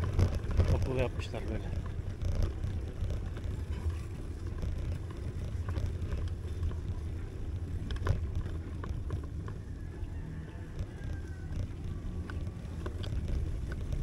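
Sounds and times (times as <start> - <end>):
light rattles: 0.0 - 14.0
wind rumbling on microphone: 0.0 - 14.0.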